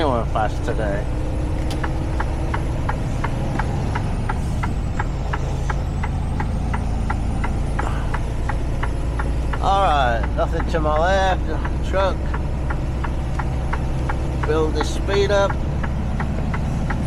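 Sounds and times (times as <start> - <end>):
truck engine and road drone: 0.0 - 17.0
turn signal ticking: 0.4 - 17.0.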